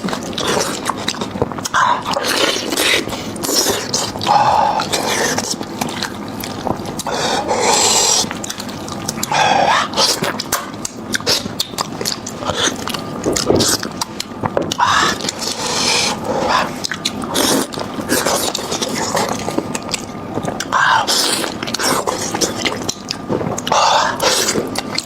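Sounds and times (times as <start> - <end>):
wet chewing and smacking: 0.0 - 25.0.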